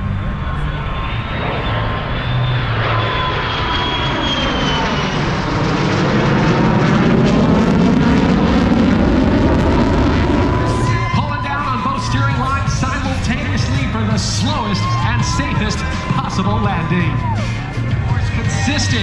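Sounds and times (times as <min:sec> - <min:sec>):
airplane engine flying past: 0:00.0 - 0:19.0.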